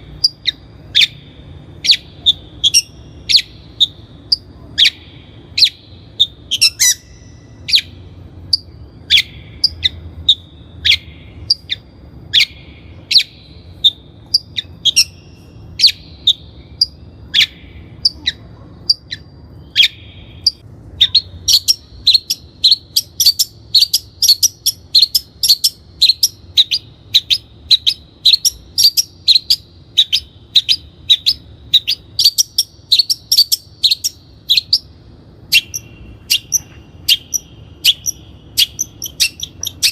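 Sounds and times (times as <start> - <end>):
shrike singing: 0.0 - 39.9.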